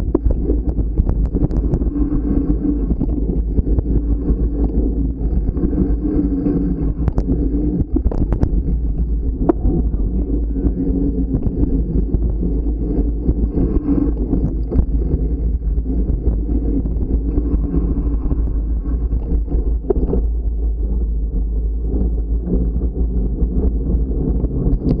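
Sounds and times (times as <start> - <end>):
bike tyres rumbling on dirt: 0.0 - 25.0
small rattles and clicks: 0.0 - 25.0
wind buffeting microphone: 0.0 - 25.0.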